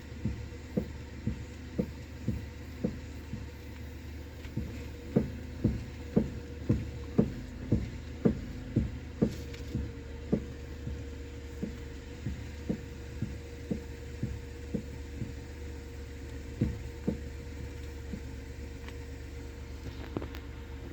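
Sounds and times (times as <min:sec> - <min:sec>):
steady hum: 0:00.0 - 0:20.9
steering gearbox knocking: 0:00.0 - 0:20.9.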